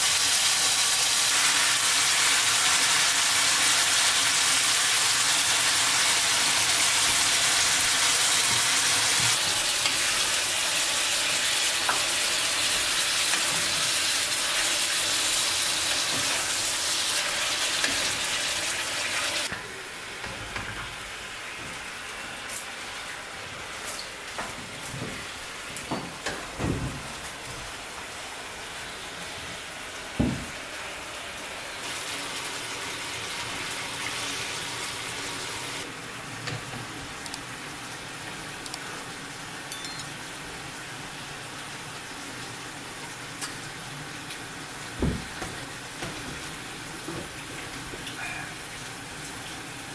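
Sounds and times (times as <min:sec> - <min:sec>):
chicken sizzling in a frying pan: 0:00.0 - 0:19.5, 0:27.9 - 0:49.9.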